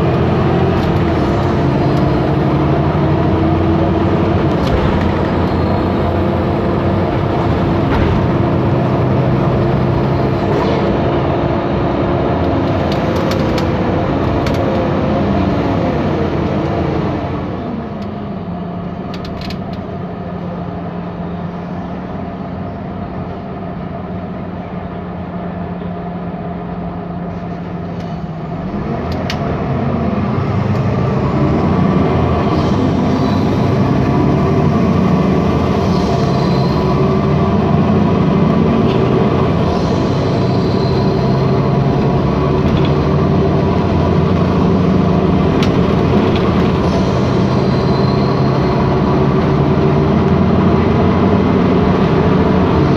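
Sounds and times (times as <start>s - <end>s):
bus engine idling and revving: 0.0s - 52.9s.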